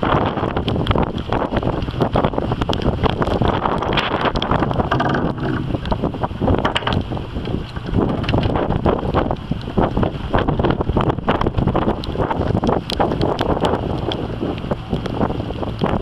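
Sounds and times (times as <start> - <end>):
steady low rumble: 0.0 - 16.0
wind buffeting microphone: 0.0 - 16.0.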